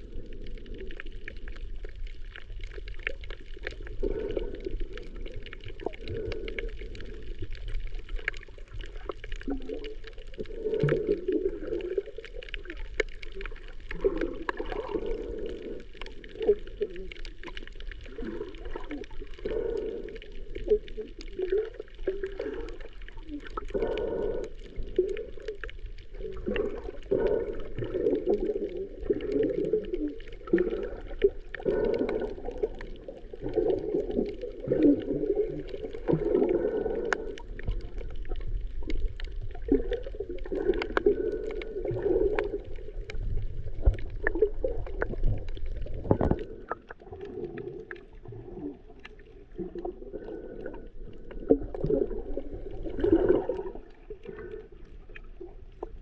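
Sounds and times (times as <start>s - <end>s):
underwater water sloshing and bubbling: 0.0s - 56.0s.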